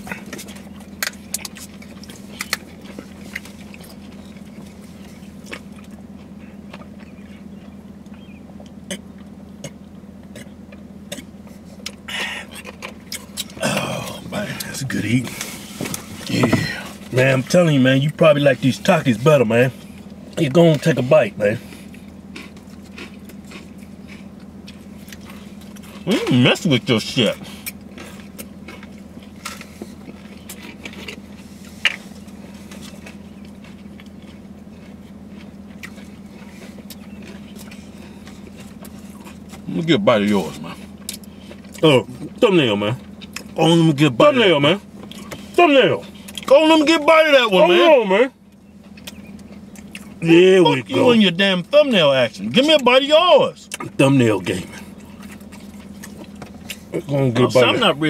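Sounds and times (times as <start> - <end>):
crunchy chewing: 0.0 - 43.8, 44.4 - 52.9, 53.6 - 57.9
steady low hum: 0.0 - 58.0.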